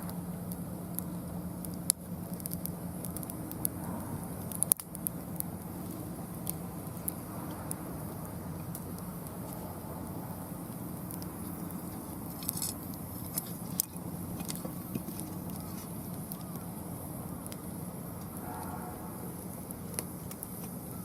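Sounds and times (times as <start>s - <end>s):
firewood crackling and popping: 0.0s - 21.0s
low rumble of fire: 0.0s - 21.0s.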